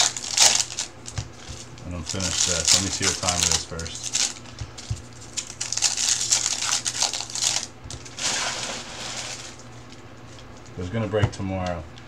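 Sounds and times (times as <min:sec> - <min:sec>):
foil wrappers crinkling: 0:00.0 - 0:10.7.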